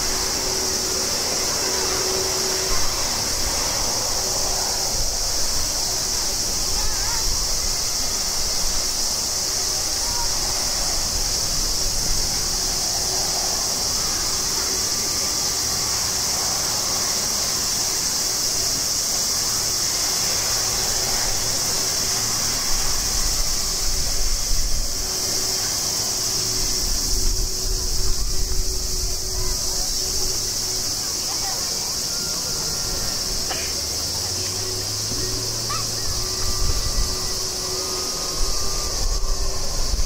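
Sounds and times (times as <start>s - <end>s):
insect chorus: 0.0s - 40.0s
jet engines rumbling: 0.0s - 40.0s.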